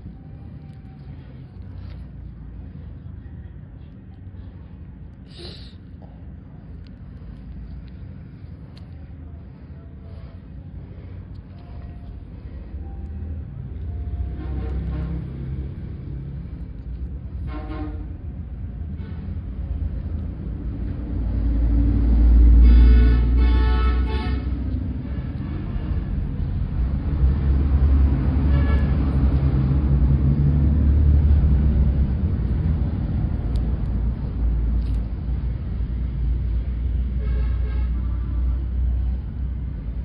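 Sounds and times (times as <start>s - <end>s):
loud low rumble: 0.0s - 40.0s.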